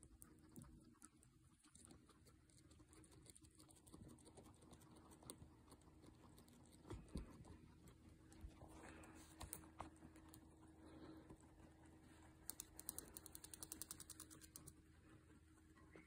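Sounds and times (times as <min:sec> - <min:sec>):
guinea pigs crunching pellets: 0:00.0 - 0:16.0.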